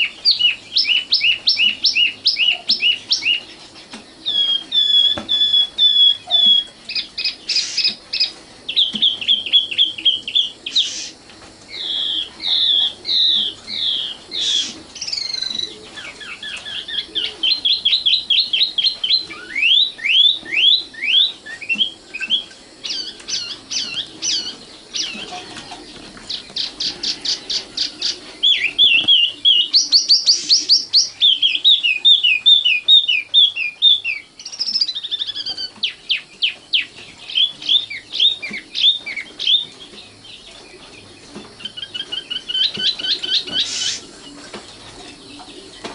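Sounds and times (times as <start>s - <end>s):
nightingale singing: 0.0s - 45.9s.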